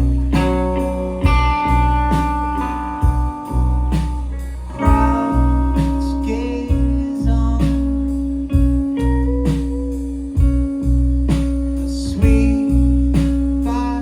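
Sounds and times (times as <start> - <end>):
drums beating: 0.0 - 13.8
rock band playing live: 0.0 - 14.0.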